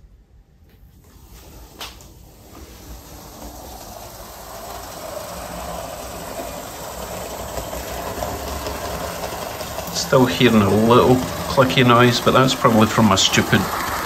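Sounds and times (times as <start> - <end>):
model train motor whirring: 1.3 - 14.0
clicking in model train drive: 2.6 - 14.0.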